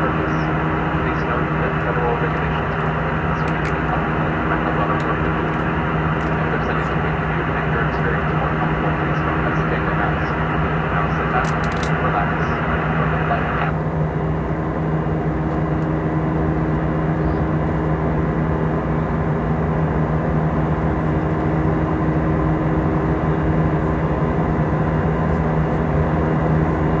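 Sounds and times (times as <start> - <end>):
airliner engine drone: 0.0 - 27.0
constant low hum: 0.0 - 27.0.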